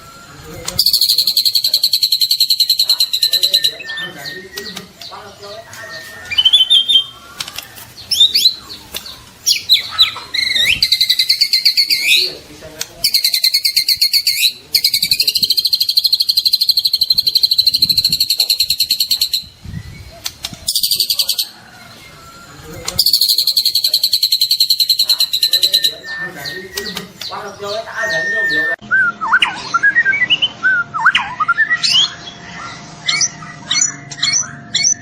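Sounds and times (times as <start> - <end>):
bird singing rapid high notes: 0.0 - 7.3, 8.0 - 12.4, 13.0 - 20.0, 23.0 - 35.0.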